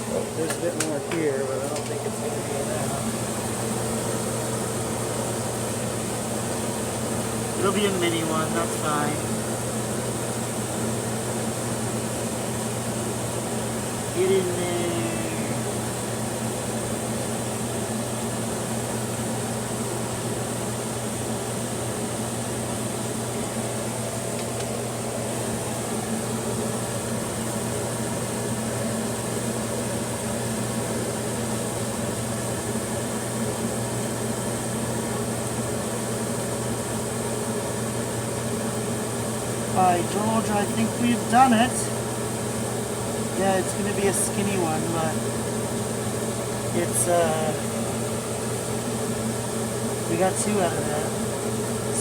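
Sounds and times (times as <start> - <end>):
loud fan whooshing hum: 0.0 - 52.0.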